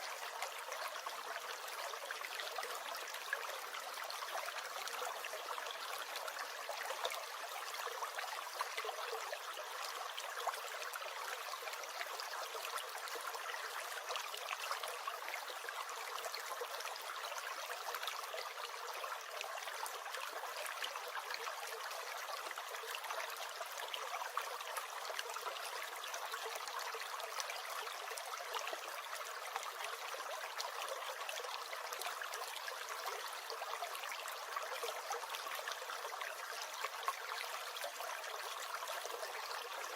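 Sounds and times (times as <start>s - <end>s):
stream gurgling and trickling: 0.0s - 39.9s.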